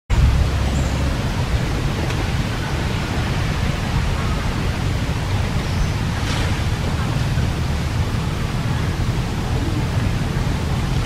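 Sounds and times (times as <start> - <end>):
even outdoor hiss: 0.1 - 11.0
strong low rumble: 0.1 - 11.0.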